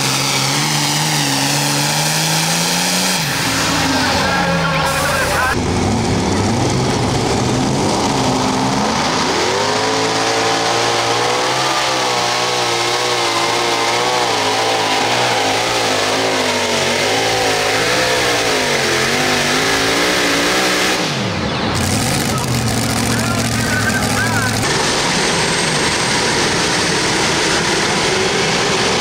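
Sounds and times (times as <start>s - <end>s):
tractor engine at full throttle: 0.0s - 29.0s.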